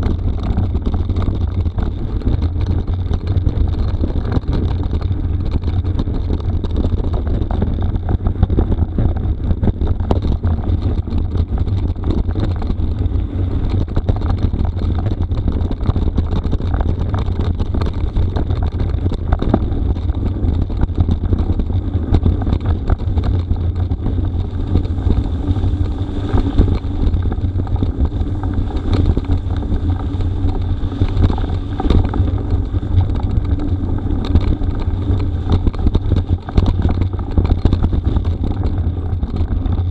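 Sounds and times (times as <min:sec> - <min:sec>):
bike knocks and rattles: 0:00.0 - 0:39.9
bike tyres rumbling on gravel: 0:00.0 - 0:39.9
wind buffeting microphone: 0:00.0 - 0:39.9.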